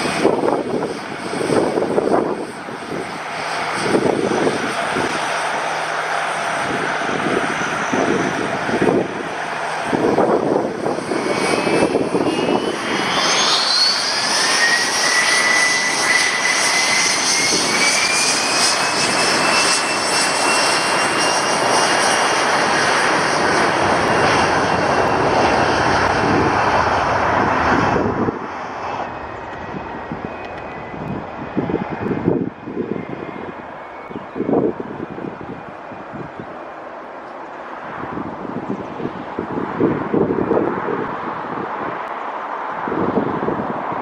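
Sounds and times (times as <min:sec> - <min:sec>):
jet engines spooling up: 0:00.0 - 0:44.0.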